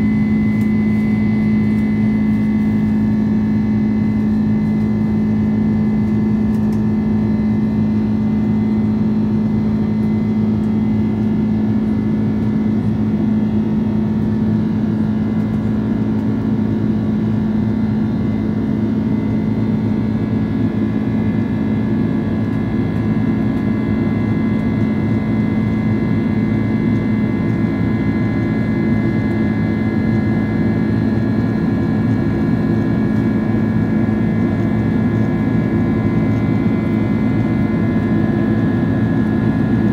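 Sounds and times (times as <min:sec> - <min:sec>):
jet engines droning in cabin: 0:00.0 - 0:39.9.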